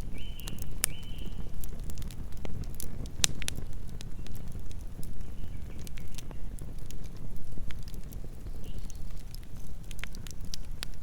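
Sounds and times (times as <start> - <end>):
burning wood crackling: 0.0 - 11.0
low rumble of flames: 0.0 - 11.0.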